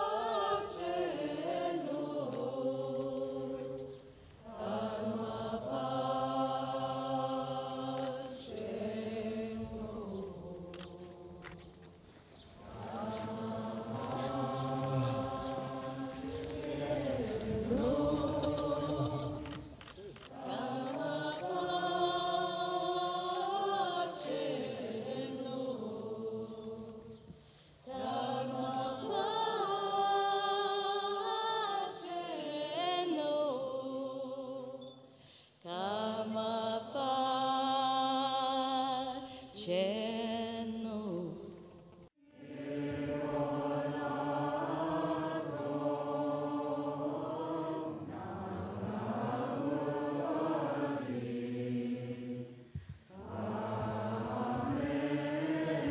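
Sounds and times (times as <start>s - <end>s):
voices chanting in unison: 0.0s - 11.7s, 12.6s - 35.1s, 42.2s - 55.9s.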